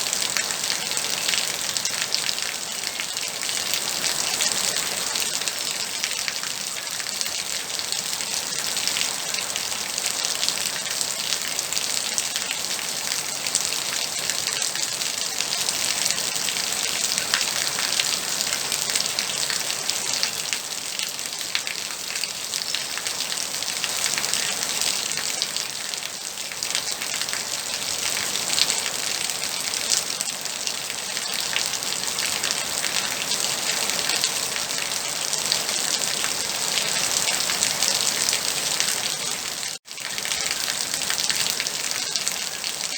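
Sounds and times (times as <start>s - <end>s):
rain falling steadily: 0.0s - 42.9s.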